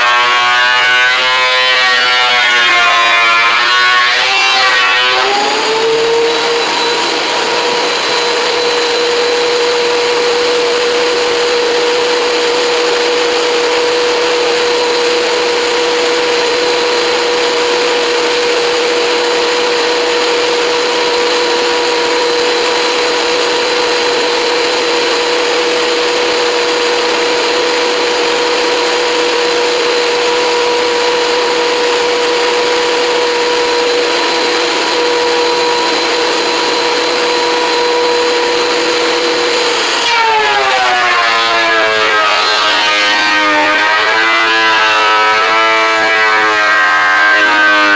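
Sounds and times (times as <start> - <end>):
electric woodworking machine whine: 0.0 - 47.9.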